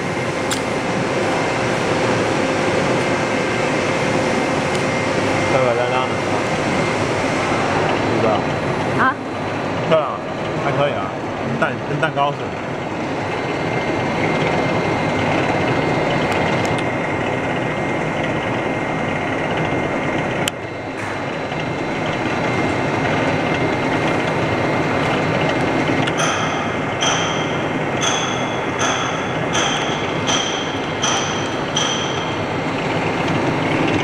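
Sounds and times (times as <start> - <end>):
mixer running mechanically: 0.0 - 34.0.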